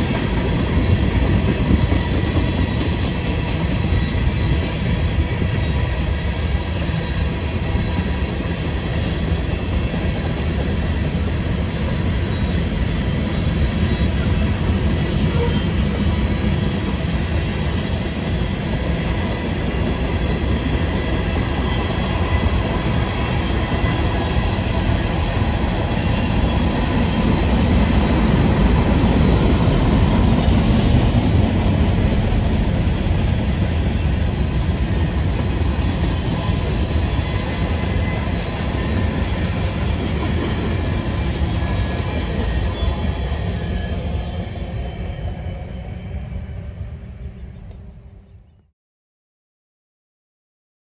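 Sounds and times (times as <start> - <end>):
freight train wheels rumbling on rails: 0.0 - 47.8.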